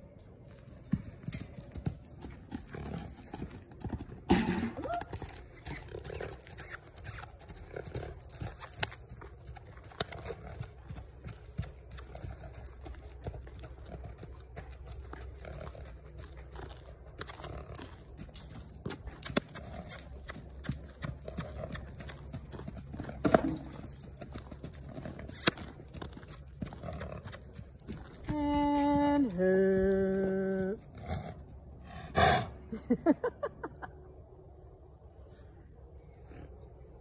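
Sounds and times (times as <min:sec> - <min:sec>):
horse hoofbeats on dirt: 0:00.0 - 0:31.8.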